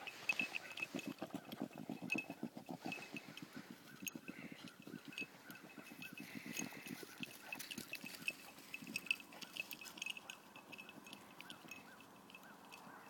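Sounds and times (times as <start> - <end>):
dog breathing quickly: 0.0 - 12.0.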